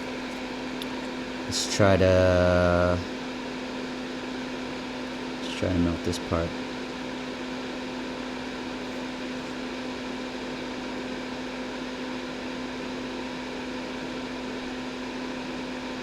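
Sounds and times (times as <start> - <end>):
electric fan humming: 0.0 - 16.0.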